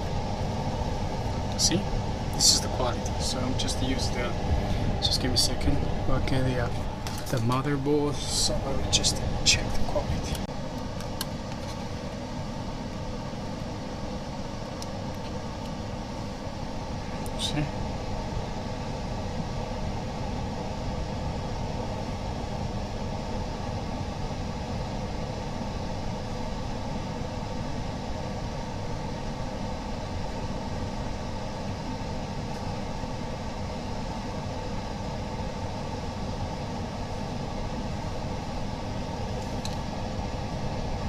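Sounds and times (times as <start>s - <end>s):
laminating machine hum and hiss: 0.0s - 41.0s.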